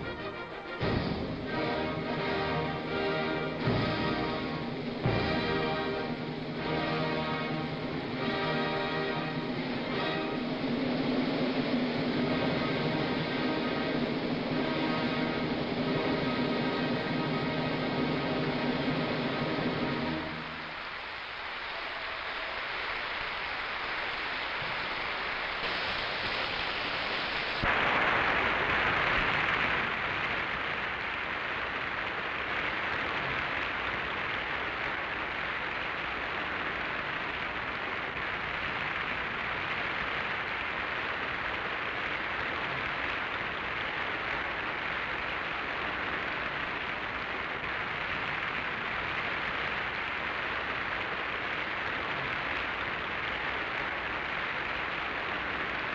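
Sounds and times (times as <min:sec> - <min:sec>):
audience applauding: 0:00.0 - 0:55.9.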